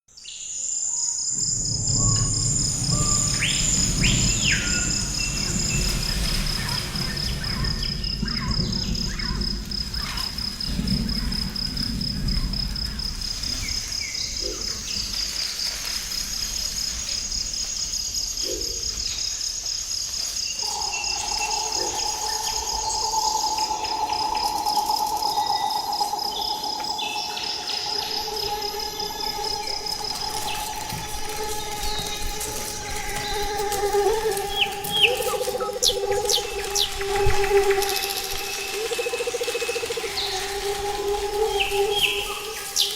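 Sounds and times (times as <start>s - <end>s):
insects trilling: 0.4s - 42.9s
lower insect trill: 0.4s - 42.9s
low rumble: 1.4s - 19.7s, 20.6s - 42.9s.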